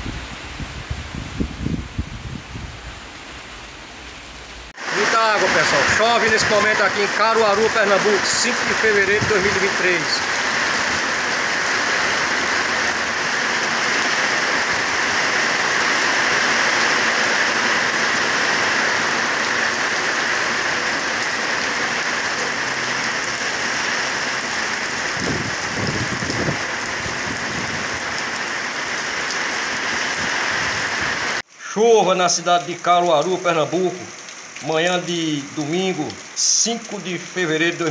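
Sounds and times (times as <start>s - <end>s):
heavy rain on wet pavement: 0.0s - 37.9s.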